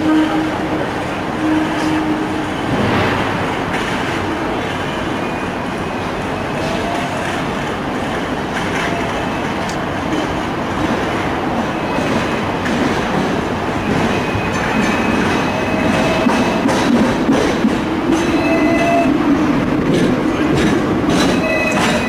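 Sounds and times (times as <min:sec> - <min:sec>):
tram wheels rumbling on rails: 0:00.0 - 0:22.0.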